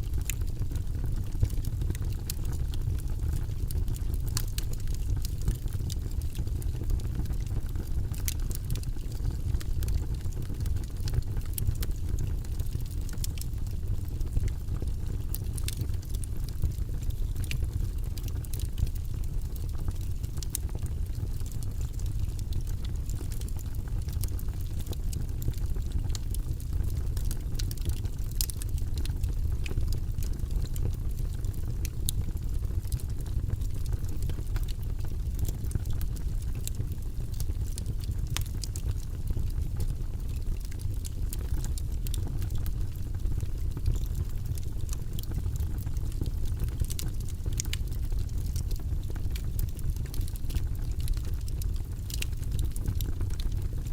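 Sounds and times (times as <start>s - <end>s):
fire rumbling in fireplace: 0.0s - 53.9s
wood crackling and popping: 0.0s - 53.9s.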